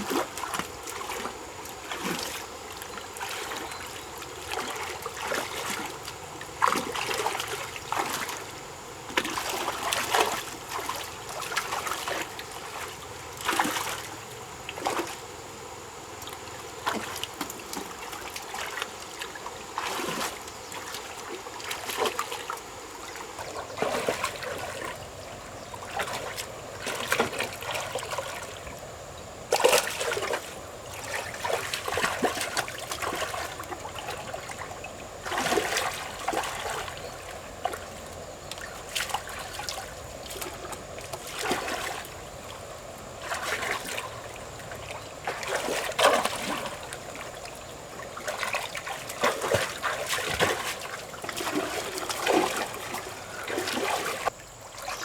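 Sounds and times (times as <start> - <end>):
river water splashing: 0.0 - 55.0.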